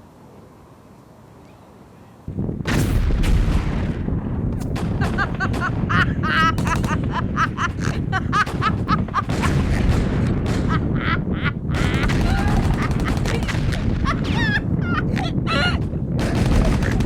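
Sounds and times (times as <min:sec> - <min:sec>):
low rumble: 0:02.3 - 0:17.0.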